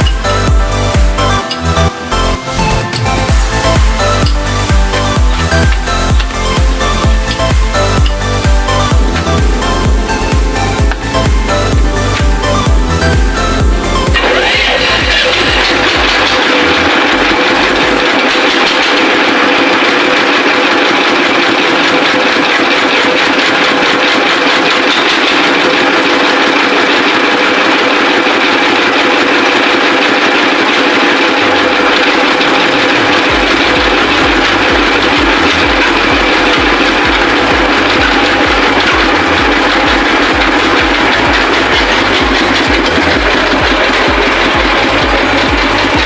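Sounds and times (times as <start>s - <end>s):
brush cutter motor running: 0.0s - 46.0s.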